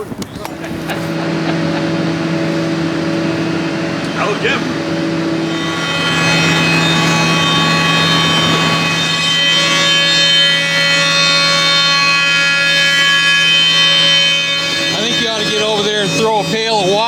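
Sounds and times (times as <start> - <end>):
motor hum: 0.0 - 17.0
high-pitched saw blade whine: 0.8 - 17.0.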